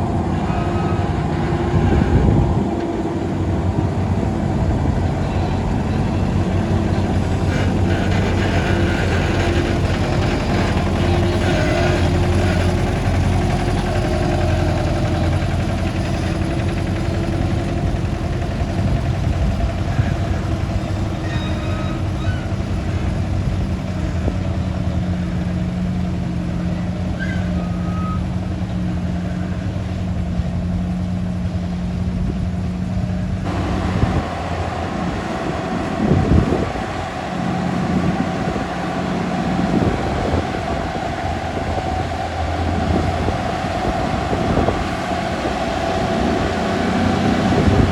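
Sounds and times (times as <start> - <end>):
truck diesel engine running: 0.0 - 47.9.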